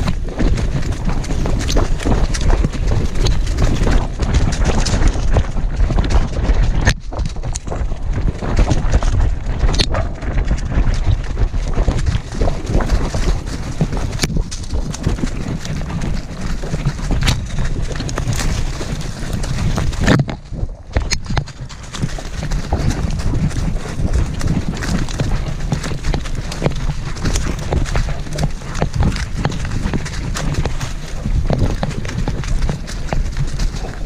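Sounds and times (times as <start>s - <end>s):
camera jolting rumble: 0.0s - 34.0s
crunching leaves: 0.0s - 34.0s.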